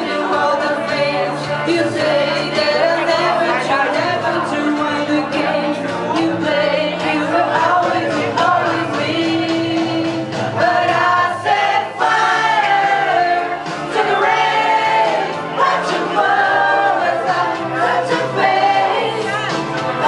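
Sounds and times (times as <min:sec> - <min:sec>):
instrumental backing music: 0:00.0 - 0:20.0
person singing pop song: 0:00.0 - 0:20.0.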